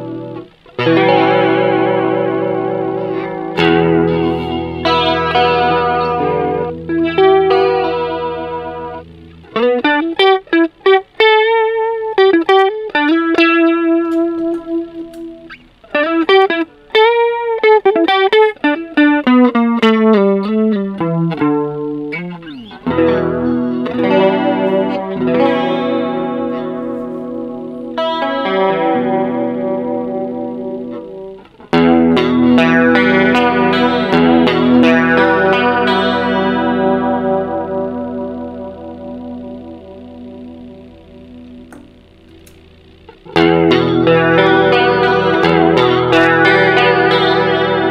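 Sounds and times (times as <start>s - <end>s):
electric guitar with chorus effect: 0.0s - 47.9s.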